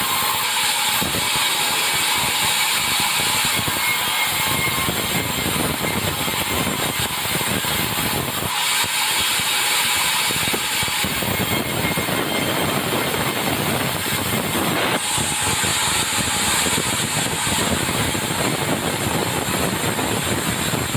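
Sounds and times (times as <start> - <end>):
sawmill cutting timber: 0.0 - 20.9.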